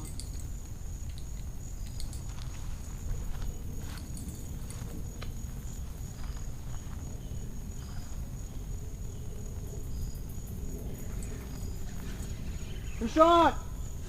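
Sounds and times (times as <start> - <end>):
constant low rumble: 0.0 - 14.0
insects droning: 0.0 - 14.0.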